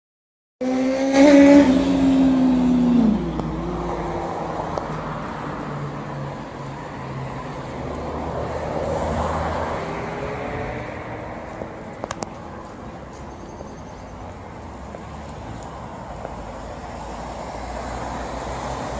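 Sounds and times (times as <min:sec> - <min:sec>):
car passing by: 0:00.6 - 0:18.9
traffic noise: 0:00.6 - 0:18.9
vehicle engine humming: 0:00.6 - 0:18.9.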